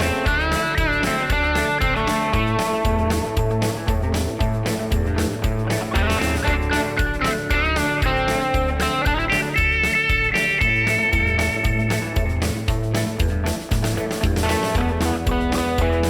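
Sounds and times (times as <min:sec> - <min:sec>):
upbeat guitar music with drums: 0:00.0 - 0:16.0.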